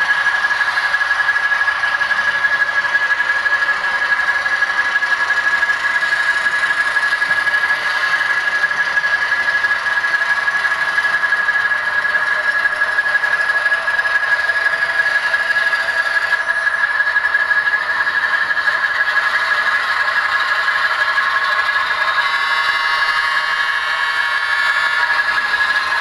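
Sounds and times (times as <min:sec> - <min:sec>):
model locomotive whine: 0:00.0 - 0:26.0.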